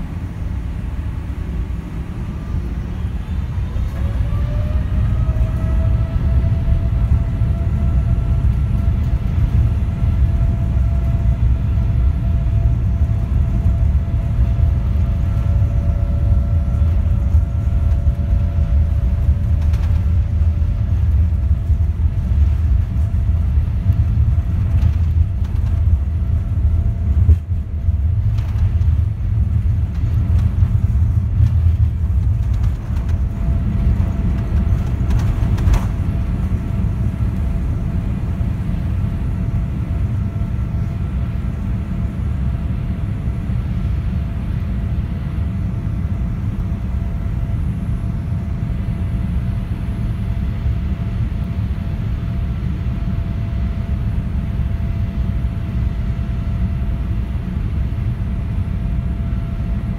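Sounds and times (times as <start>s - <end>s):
jet engines at takeoff: 0.0s - 59.9s
wheels rumbling on runway: 0.0s - 59.9s.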